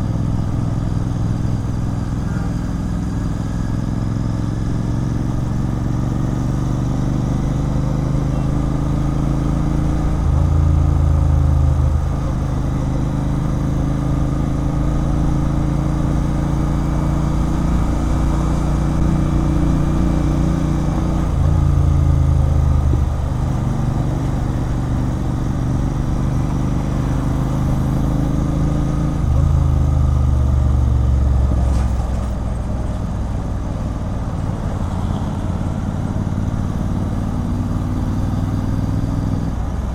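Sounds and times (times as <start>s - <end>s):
motorcycle engine with loud exhaust: 0.0s - 39.9s.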